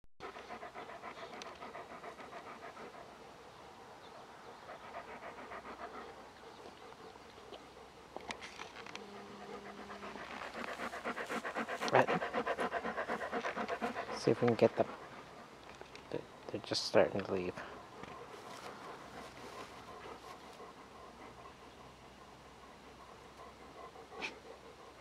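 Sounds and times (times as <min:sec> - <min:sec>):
rapid panting: 0:00.2 - 0:08.4, 0:09.0 - 0:25.0.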